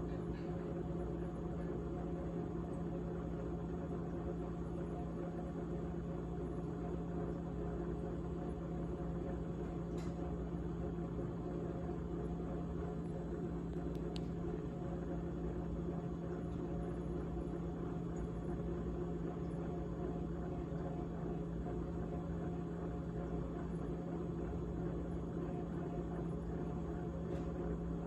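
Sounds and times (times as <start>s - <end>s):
refrigerator humming: 0.0s - 28.0s.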